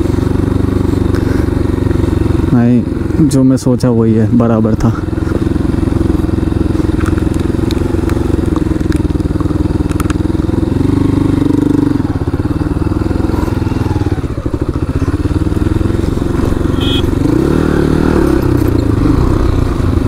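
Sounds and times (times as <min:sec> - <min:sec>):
motorcycle engine at low revs: 0:00.0 - 0:20.0.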